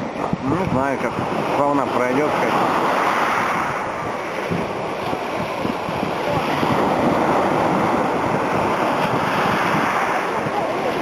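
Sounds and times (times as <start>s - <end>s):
waves breaking: 0.0s - 11.0s
wind buffeting microphone: 0.0s - 11.0s.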